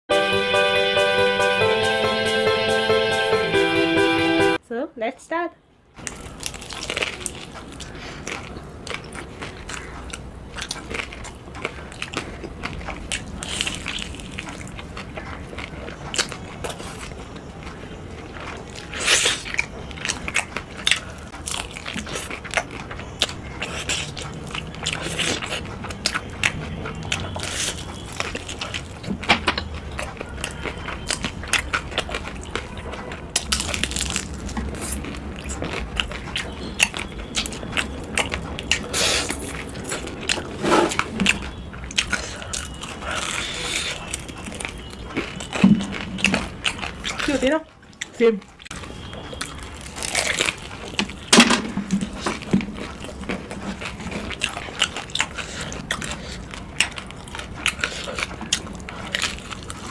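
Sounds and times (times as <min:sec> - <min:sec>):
crunchy chewing of fried chicken: 0:06.0 - 0:59.9.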